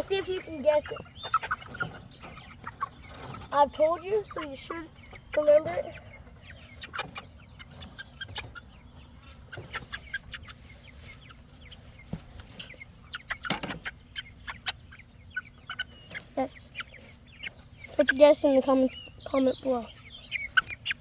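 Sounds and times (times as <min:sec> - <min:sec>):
chickens clucking and chirping: 0:00.0 - 0:21.0.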